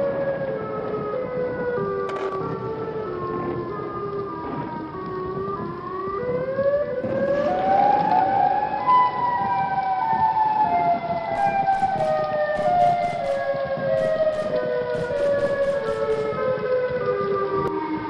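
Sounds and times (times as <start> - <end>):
air-raid sirens wailing: 0.0 - 18.0.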